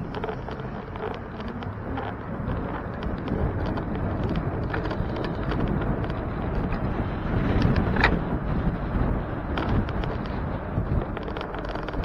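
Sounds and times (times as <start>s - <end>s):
light clicks and rattles: 0.0s - 8.3s, 9.5s - 12.0s
bicycle road rumble: 0.0s - 12.0s
wind rushing over microphone: 0.0s - 12.0s.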